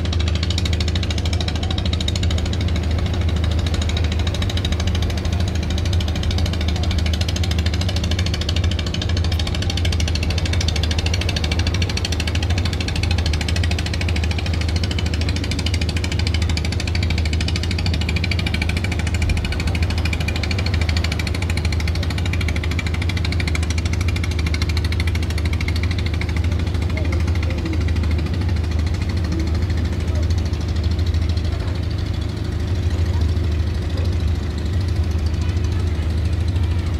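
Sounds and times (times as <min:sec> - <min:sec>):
boat diesel engines rumbling: 0:00.0 - 0:36.9
churned water hissing: 0:00.0 - 0:36.9.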